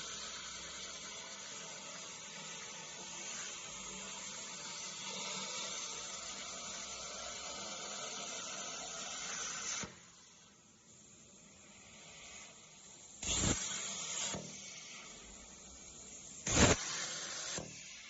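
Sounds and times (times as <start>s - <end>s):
plasma cutter torch hissing: 0.0s - 18.0s.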